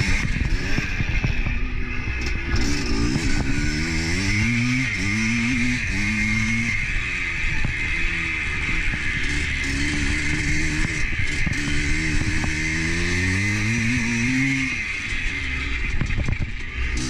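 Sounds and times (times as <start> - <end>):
engine accelerating: 0.0 - 17.0.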